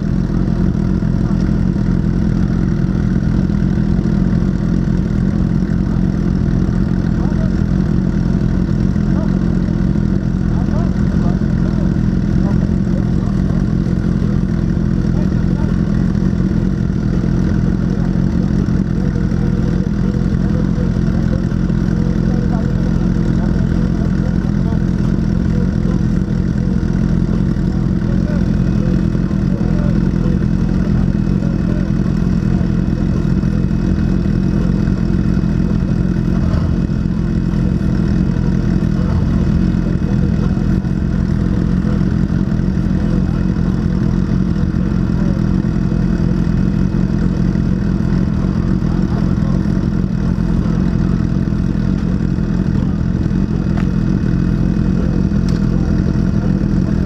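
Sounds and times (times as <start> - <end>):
motorcycle engines idling: 0.0 - 57.0.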